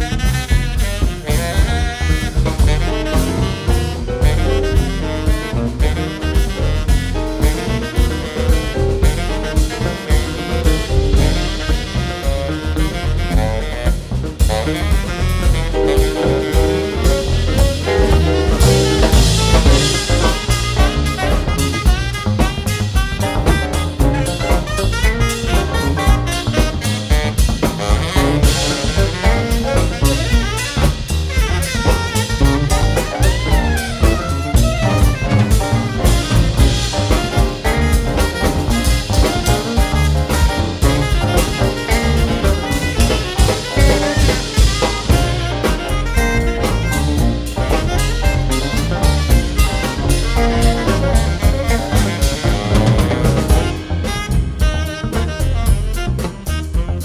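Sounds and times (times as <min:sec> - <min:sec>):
drum kit beat: 0:00.0 - 0:57.0
jazz big band playing: 0:00.0 - 0:57.0.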